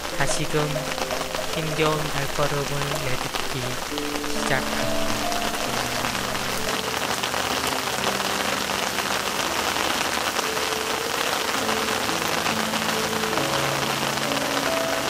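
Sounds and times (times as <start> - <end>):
rain falling on rocks and leaves: 0.0 - 15.0
soft sustained music: 0.0 - 15.0.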